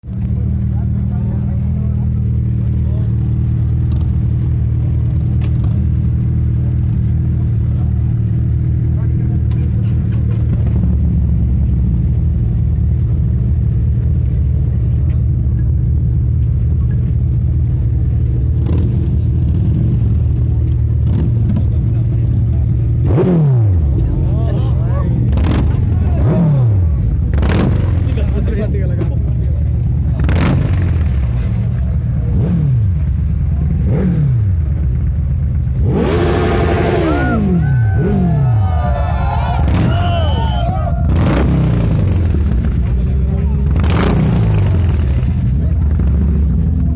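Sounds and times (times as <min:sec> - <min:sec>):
motorcycle engine idling: 0:00.0 - 0:23.0, 0:26.8 - 0:35.8, 0:37.6 - 0:46.9.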